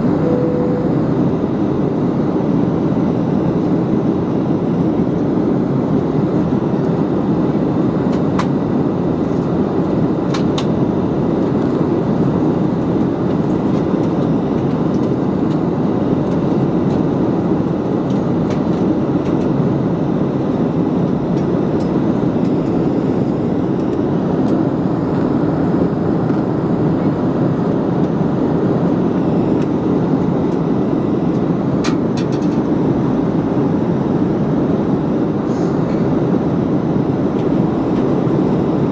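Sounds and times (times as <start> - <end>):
jet engines roaring in cabin: 0.0 - 38.9.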